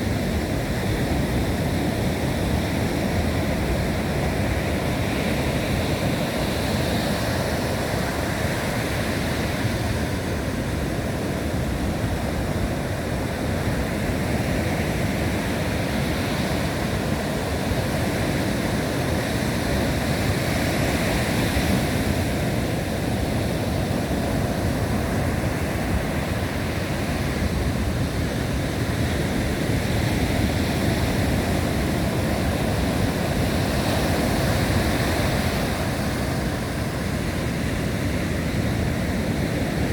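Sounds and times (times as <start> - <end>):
high wind blowing: 0.0 - 39.9
waves breaking in surf: 0.0 - 39.9.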